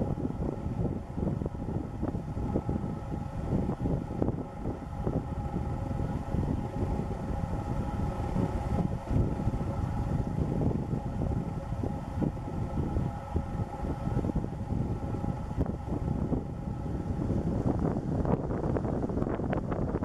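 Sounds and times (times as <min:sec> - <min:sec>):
faint steady hum: 0:00.0 - 0:20.0
wind buffeting microphone: 0:00.0 - 0:20.0.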